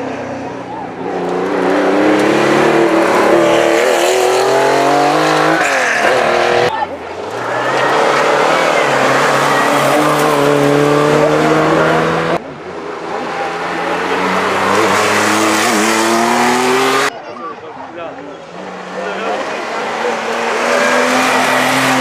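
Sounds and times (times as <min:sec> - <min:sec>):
rally car engines accelerating: 0:00.0 - 0:17.1, 0:18.4 - 0:22.0.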